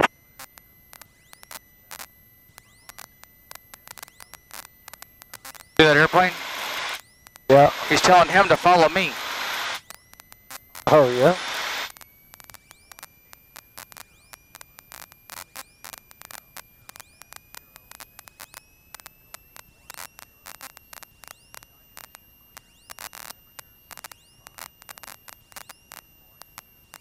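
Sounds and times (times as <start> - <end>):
crackling static: 0.0 - 27.0
thin steady whine: 0.0 - 27.0.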